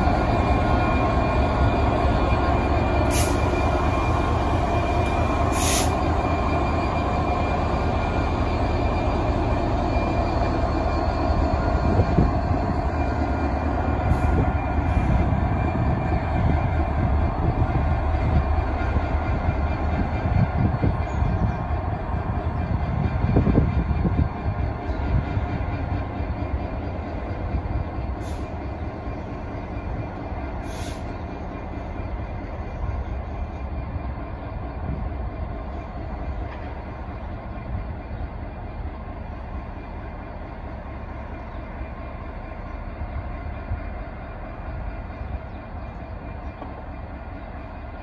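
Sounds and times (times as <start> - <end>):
diesel locomotive engine: 0.0 - 48.0.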